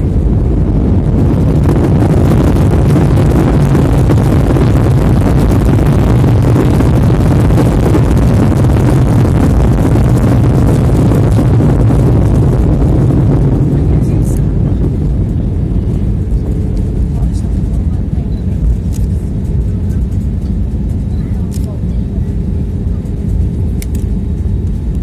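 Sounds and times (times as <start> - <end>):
airplane cabin engine rumble: 0.0 - 25.0.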